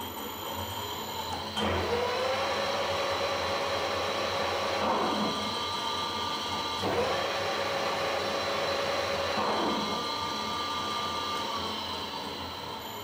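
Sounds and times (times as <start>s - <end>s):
lathe spindle whine: 0.0s - 13.0s.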